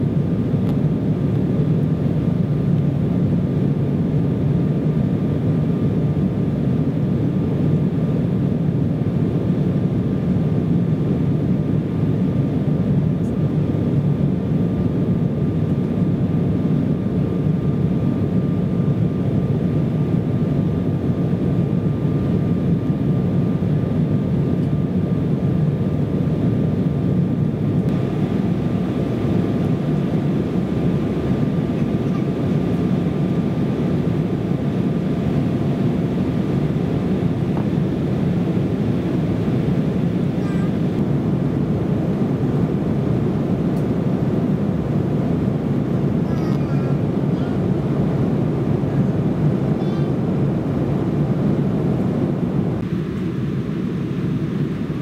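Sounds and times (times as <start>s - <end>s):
jet engine cabin roar: 0.0s - 55.0s
thin steady whine: 0.0s - 55.0s.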